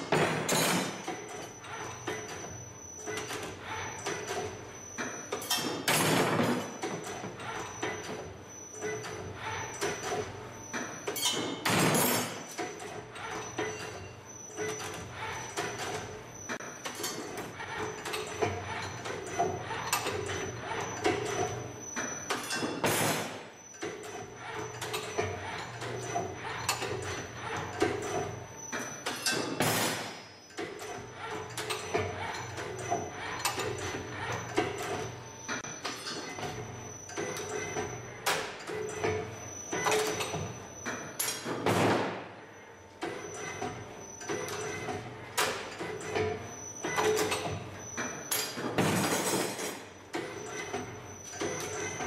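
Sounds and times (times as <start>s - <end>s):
machine clicks and clanks: 0.0s - 52.0s.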